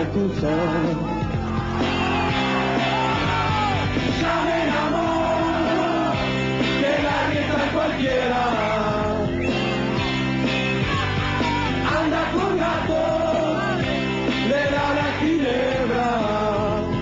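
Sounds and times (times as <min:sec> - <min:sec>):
drums: 0:00.0 - 0:17.0.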